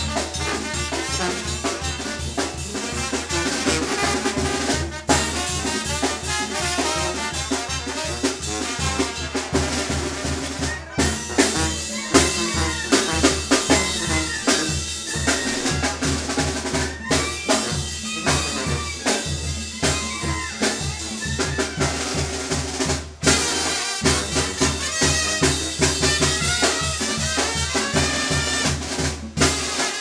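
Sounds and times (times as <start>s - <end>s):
brass band playing dance music: 0.0s - 30.0s.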